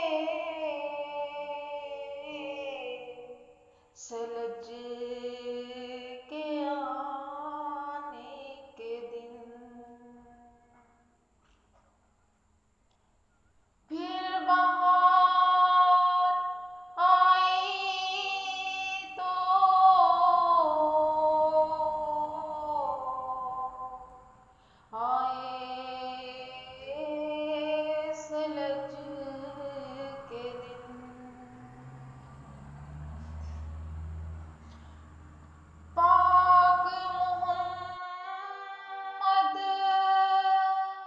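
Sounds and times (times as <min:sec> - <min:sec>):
woman singing unaccompanied: 0:00.0 - 0:10.9, 0:13.9 - 0:32.2, 0:35.8 - 0:41.0.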